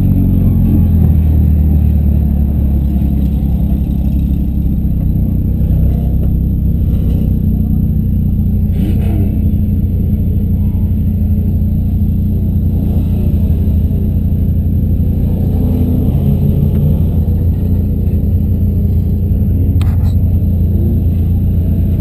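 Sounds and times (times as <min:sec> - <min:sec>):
car engines running loud: 0:00.0 - 0:22.0.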